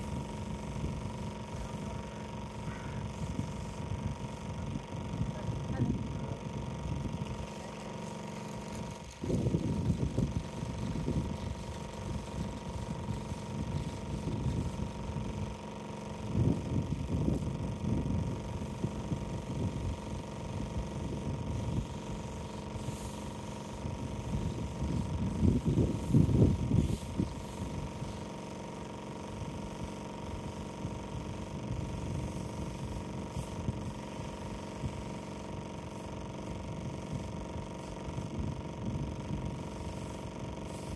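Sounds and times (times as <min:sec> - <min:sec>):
pressure washer humming: 0:00.0 - 0:40.9
water spraying on wall: 0:00.0 - 0:40.9.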